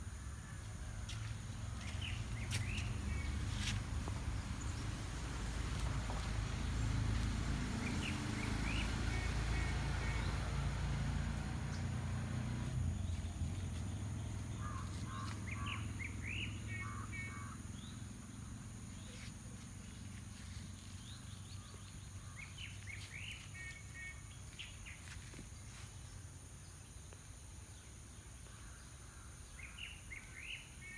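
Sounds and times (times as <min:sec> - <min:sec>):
low outdoor rumble: 0:00.0 - 0:26.8
bird song chirps: 0:01.2 - 0:30.9.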